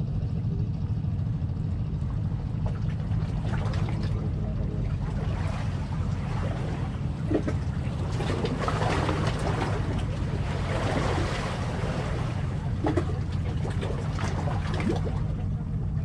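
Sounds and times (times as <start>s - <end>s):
boat engine drone: 0.0s - 16.0s
water noise: 0.0s - 16.0s
wind: 0.0s - 16.0s.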